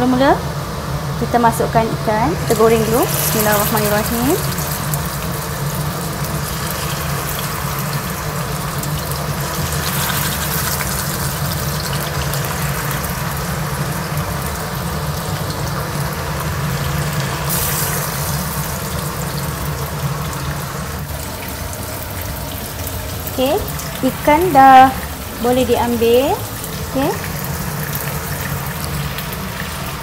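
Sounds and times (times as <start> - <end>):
fish sizzling in hot oil: 0.8 - 30.0.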